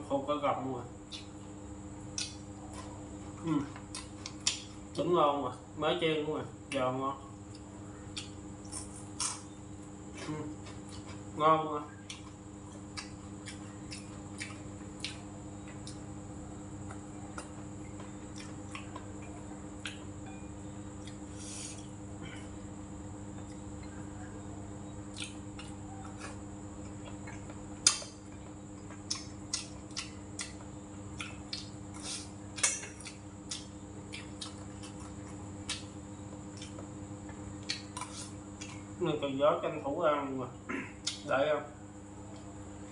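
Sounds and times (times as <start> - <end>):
steady hum: 0.0 - 42.9
person chewing: 1.0 - 5.0, 7.4 - 24.3, 25.0 - 39.0, 41.0 - 41.3.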